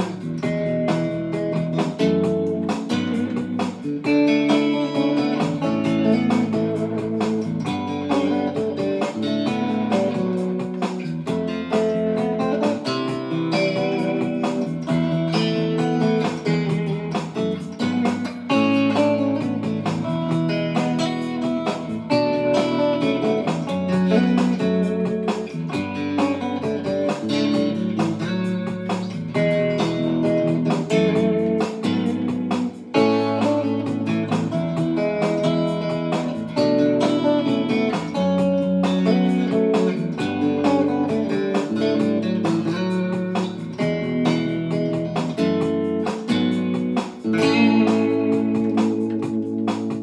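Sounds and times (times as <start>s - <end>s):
electric guitar playing: 0.0s - 50.0s.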